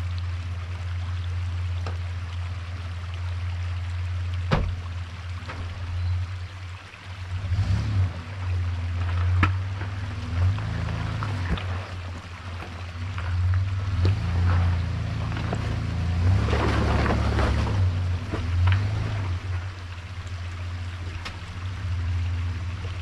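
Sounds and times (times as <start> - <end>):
truck engine running low: 0.0 - 23.0.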